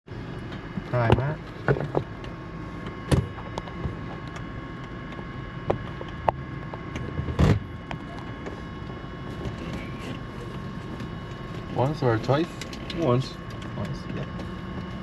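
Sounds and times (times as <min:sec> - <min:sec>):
thin electrical whine: 0:00.1 - 0:15.0.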